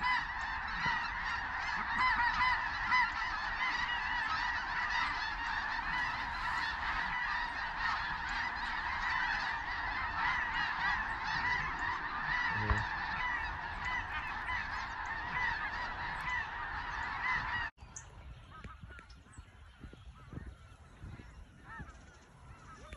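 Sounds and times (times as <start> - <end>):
geese honking: 0.0 - 17.7, 18.4 - 22.9.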